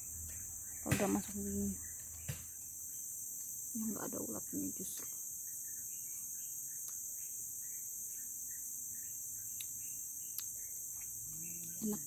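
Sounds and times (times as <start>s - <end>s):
faint chirps: 0.0s - 12.0s
forest insects buzzing: 0.0s - 12.0s.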